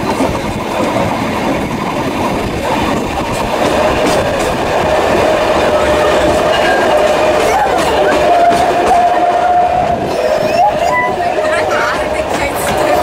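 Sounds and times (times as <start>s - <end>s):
train wheels rumbling and clattering: 0.0s - 13.0s.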